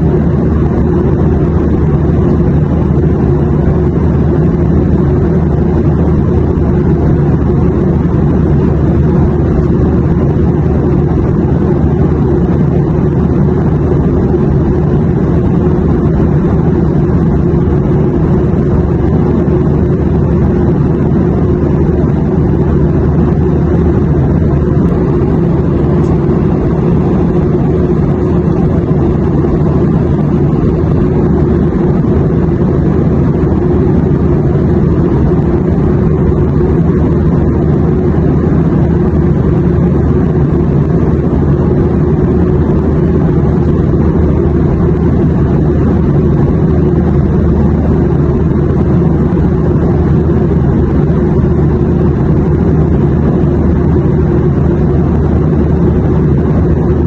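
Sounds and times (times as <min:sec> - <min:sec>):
airliner engine and airflow rumble: 0:00.0 - 0:57.0.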